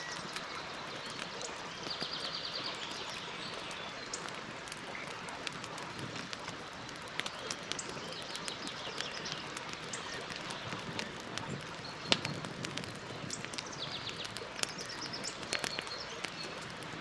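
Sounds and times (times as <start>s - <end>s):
campfire crackling and popping: 0.0s - 17.0s
campfire hiss: 0.0s - 17.0s.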